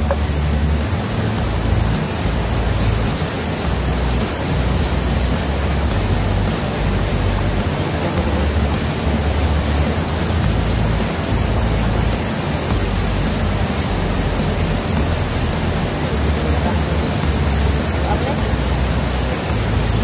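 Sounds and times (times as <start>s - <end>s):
low rumble: 0.0s - 20.0s
river water rushing: 0.0s - 20.0s.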